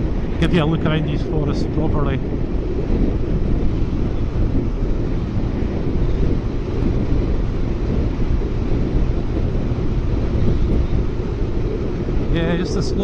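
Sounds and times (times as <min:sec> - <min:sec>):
motorcycle engine rumble: 0:00.0 - 0:13.0
wind rushing on microphone: 0:00.0 - 0:13.0.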